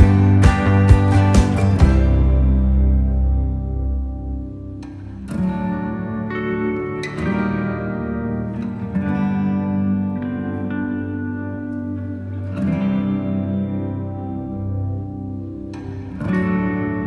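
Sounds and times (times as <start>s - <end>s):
plucked guitar notes: 0.0s - 17.0s.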